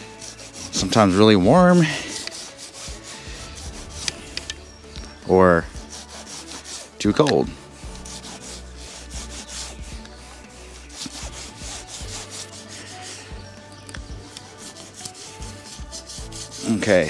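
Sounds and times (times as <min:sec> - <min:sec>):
toothbrush scrubbing tire: 0:00.0 - 0:04.6, 0:05.5 - 0:13.4, 0:14.0 - 0:17.0.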